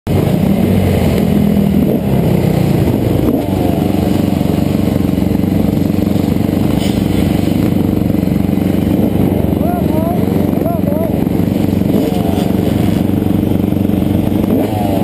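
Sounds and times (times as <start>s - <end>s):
dirt bike engines idling: 0.1s - 15.0s.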